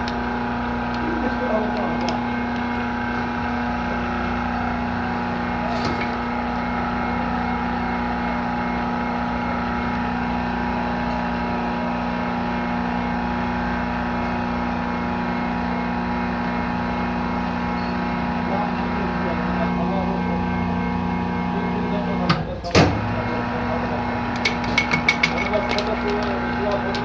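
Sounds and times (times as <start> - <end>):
engine humming steadily: 0.0 - 27.0.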